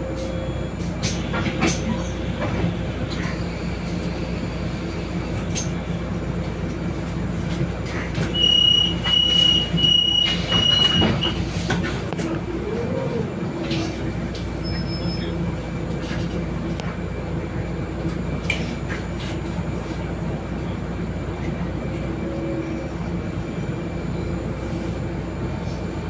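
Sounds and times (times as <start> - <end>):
bus idling hum: 0.0 - 26.0.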